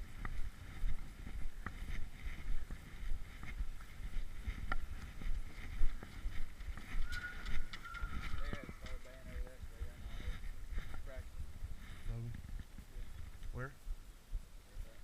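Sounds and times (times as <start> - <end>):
microphone handling noise: 0.0 - 14.5
wind rumbling on microphone: 0.0 - 15.0.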